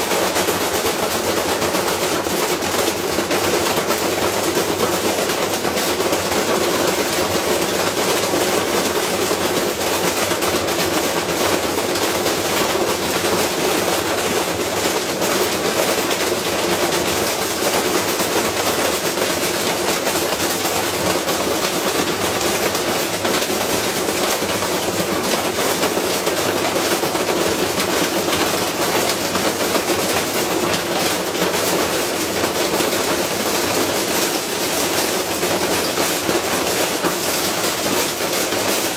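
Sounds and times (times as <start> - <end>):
washing machine clattering and banging: 0.0 - 38.9.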